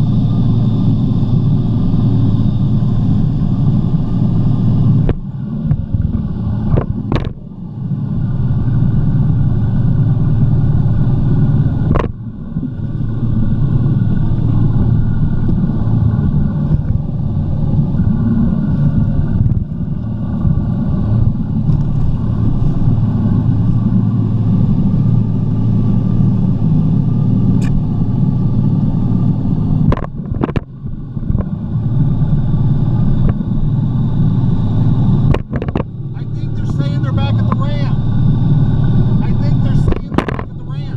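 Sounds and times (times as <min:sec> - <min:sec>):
jet ski engine running: 0:00.0 - 0:40.9.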